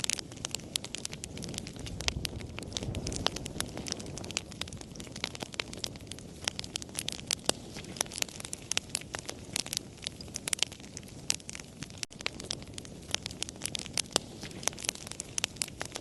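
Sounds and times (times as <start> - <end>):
low hiss of burning: 0.0 - 16.0
wood fire crackling: 0.0 - 16.0.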